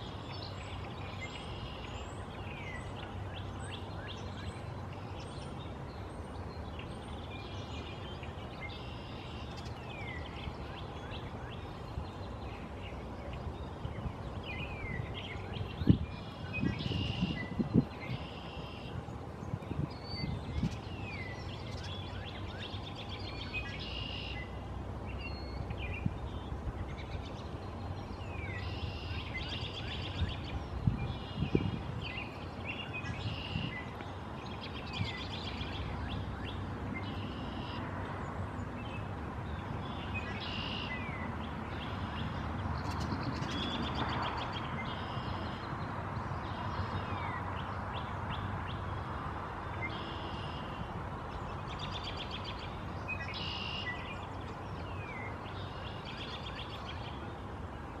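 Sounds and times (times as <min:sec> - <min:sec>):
outdoor background hum: 0:00.0 - 0:58.0
small birds chirping: 0:00.0 - 0:58.0.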